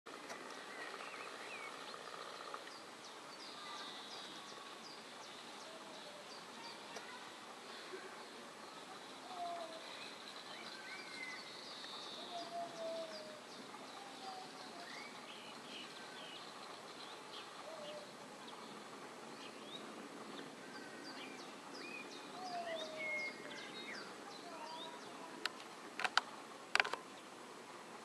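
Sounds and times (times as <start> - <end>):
small birds chirping: 0.1 - 27.4
steady background hiss: 0.1 - 28.0.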